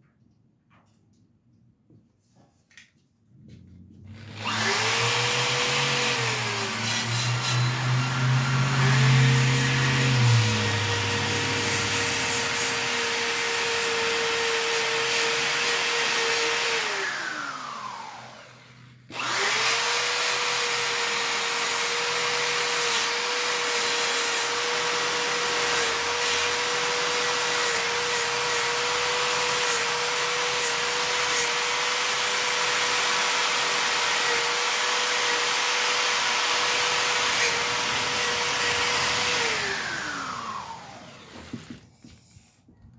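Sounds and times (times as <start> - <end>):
power tool motor whining: 4.0 - 41.9.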